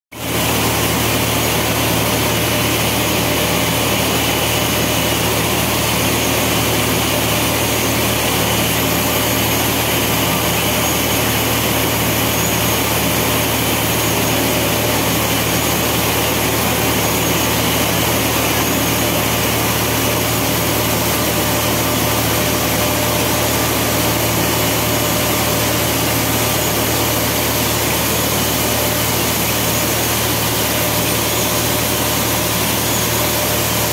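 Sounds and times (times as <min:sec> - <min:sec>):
loud machine hum: 0:00.2 - 0:33.9.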